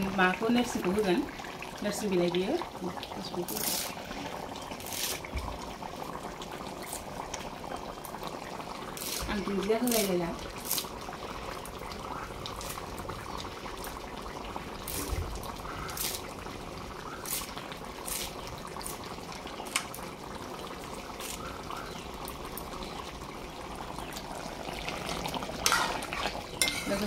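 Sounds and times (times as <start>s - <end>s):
curry bubbling: 0.0s - 27.0s.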